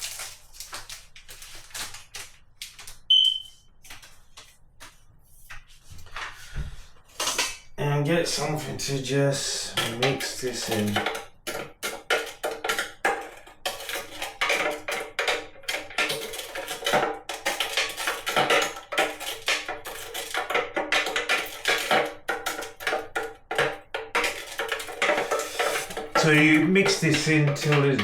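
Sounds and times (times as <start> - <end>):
utensil stirring in plastic tank: 0.0 - 28.0.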